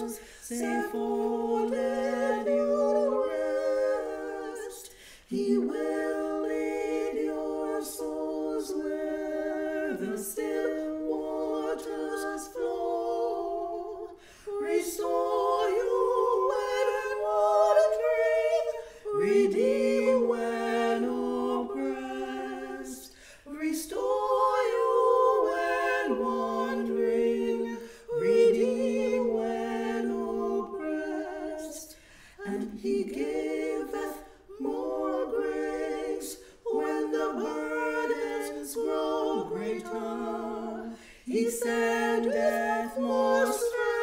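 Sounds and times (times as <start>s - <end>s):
women singing in harmony: 0.0s - 44.0s.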